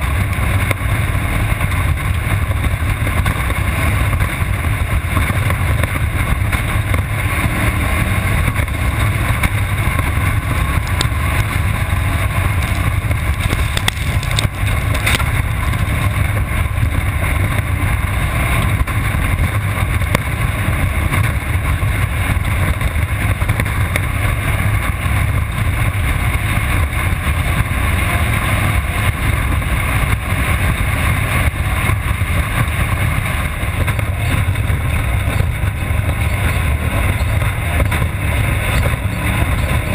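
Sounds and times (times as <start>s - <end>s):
race car engine running hard: 0.0s - 39.9s
wind noise on microphone: 0.0s - 39.9s.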